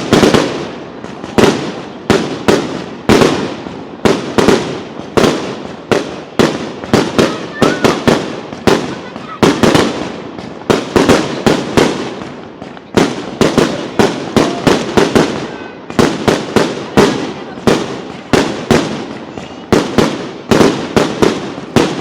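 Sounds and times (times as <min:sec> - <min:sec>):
fireworks exploding: 0:00.0 - 0:22.0.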